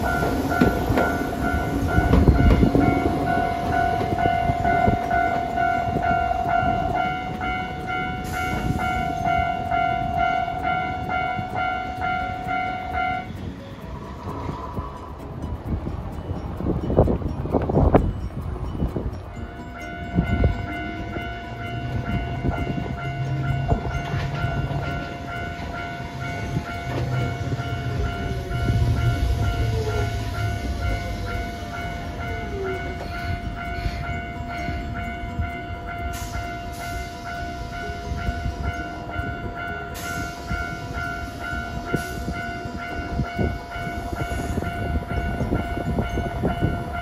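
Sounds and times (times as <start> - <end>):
steady high tones: 0.0 - 47.0
tram wheels and motors rumbling: 0.0 - 47.0.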